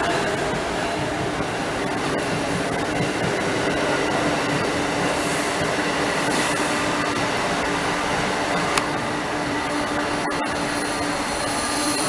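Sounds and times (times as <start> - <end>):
train wheels rushing on rail: 0.0 - 12.0.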